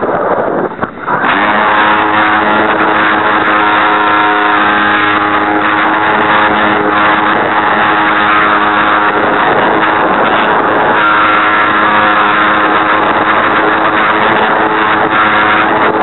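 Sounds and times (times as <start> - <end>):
rushing wind noise: 0.0 - 16.0
model airplane motor buzzing whine: 0.1 - 16.0.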